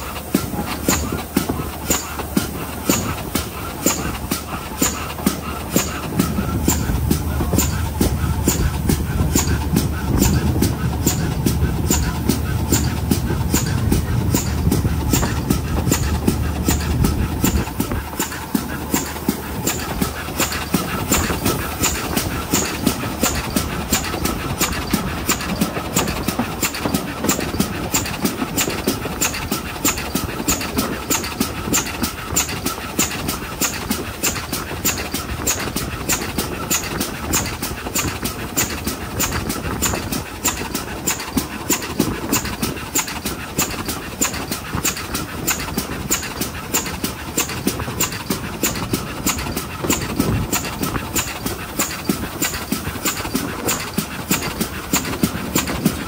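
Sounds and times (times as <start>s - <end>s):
steam locomotive exhaust beat: 0.0s - 56.0s
train running noise: 0.0s - 56.0s
wind on microphone: 5.5s - 56.0s.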